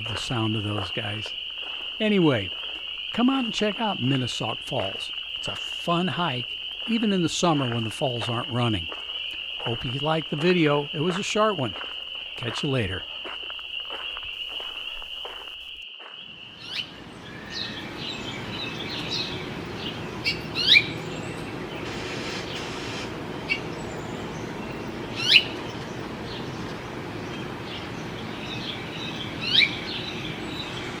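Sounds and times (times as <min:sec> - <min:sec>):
spring peepers chorus: 0:00.0 - 0:31.0.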